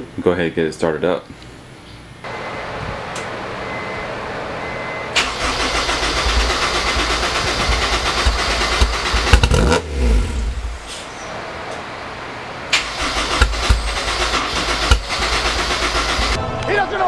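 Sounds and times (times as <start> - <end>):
car engine starting and idling: 2.3 - 16.4.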